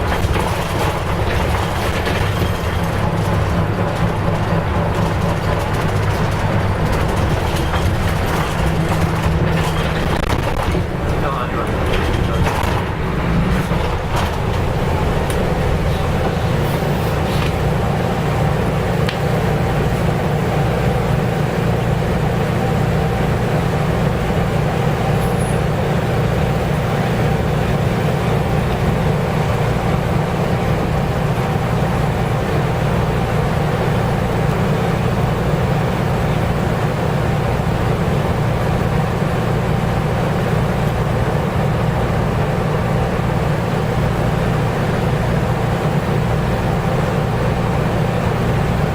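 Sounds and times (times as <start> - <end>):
bus diesel engine cruising: 0.0 - 48.9.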